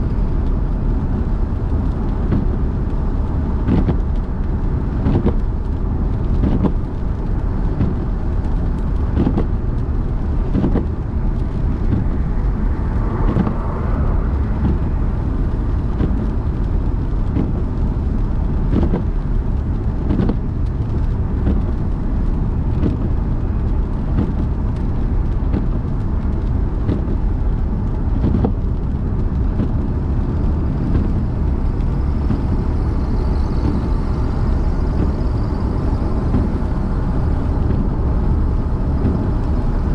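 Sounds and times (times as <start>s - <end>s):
tyres and engine rumble: 0.0s - 39.9s.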